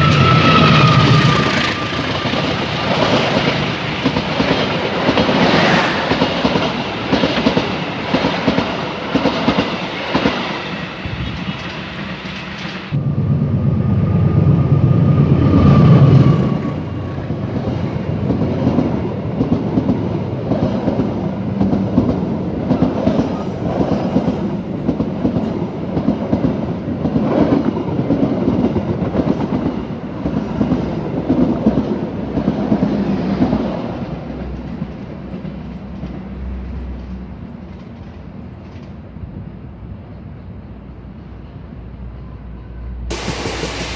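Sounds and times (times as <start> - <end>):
train passing with low rumble: 0.0 - 43.9.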